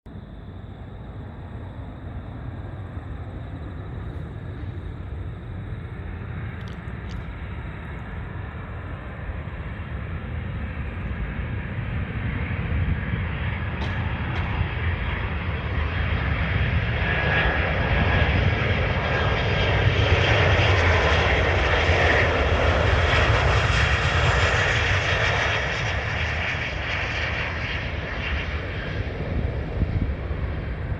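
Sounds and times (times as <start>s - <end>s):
jet airliner engines passing: 0.1s - 30.9s.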